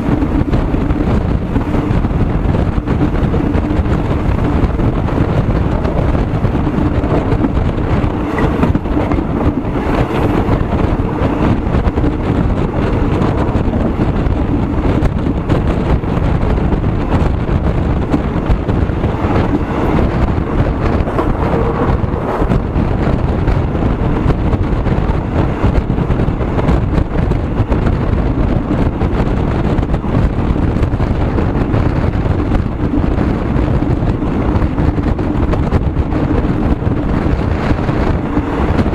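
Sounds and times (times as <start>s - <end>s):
moving vehicle drone: 0.0s - 38.9s
wind rumble on microphone: 0.0s - 38.9s.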